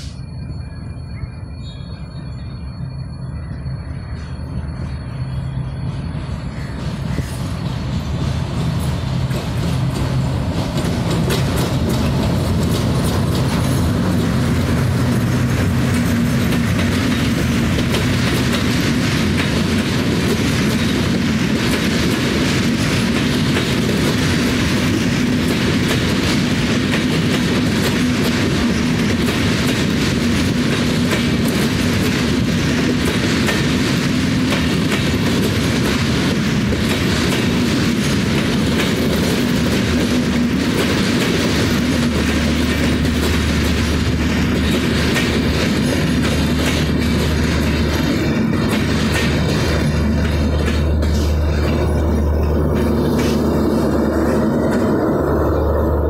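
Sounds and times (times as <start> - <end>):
train rumble: 0.0 - 56.0
train wheels clattering over rail joints: 4.2 - 56.0.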